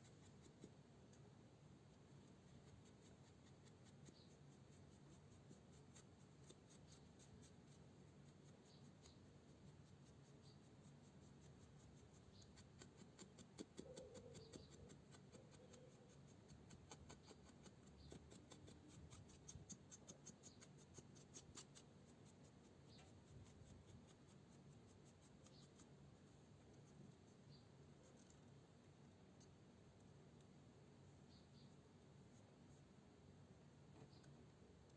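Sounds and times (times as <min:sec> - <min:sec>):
faint scratching and rubbing: 0:00.0 - 0:33.0.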